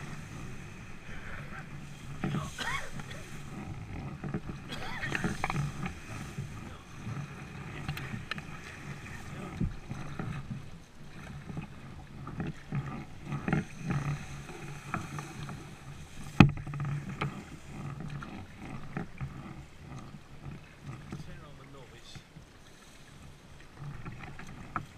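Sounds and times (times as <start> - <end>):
paddle splashes: 0.0 - 24.9
reeds scraping along hull: 0.0 - 24.9
water lapping: 0.0 - 24.9.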